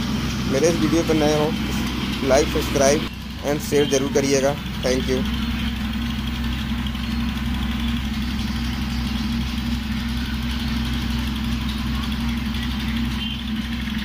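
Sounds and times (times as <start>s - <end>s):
drilling equipment engine humming: 0.0s - 14.0s.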